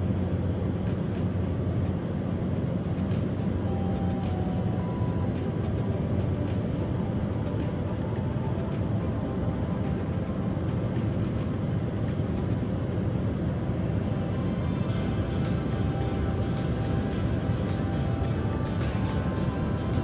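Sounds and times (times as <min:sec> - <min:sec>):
propeller aircraft cabin drone: 0:00.0 - 0:20.0.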